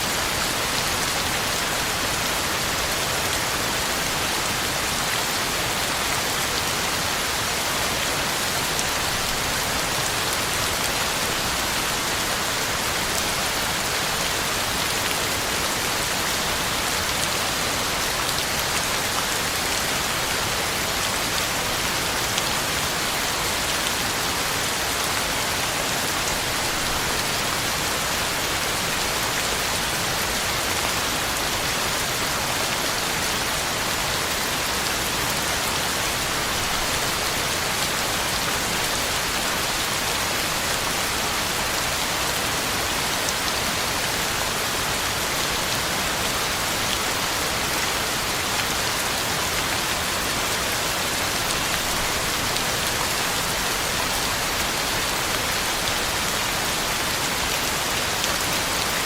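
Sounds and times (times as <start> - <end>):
heavy rain on ground and leaves: 0.0 - 59.0.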